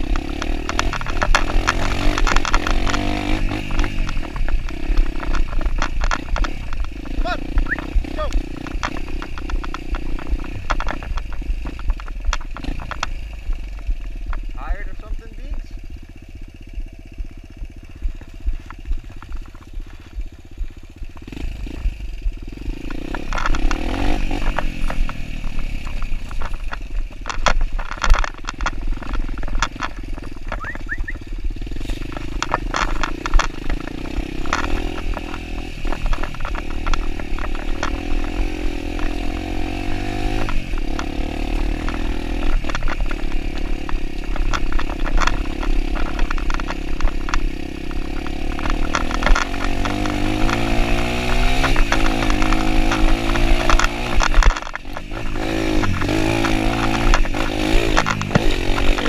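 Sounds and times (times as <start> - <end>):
bike knocks and rattles: 0.0 - 59.0
dirt bike engine revving: 0.0 - 59.0.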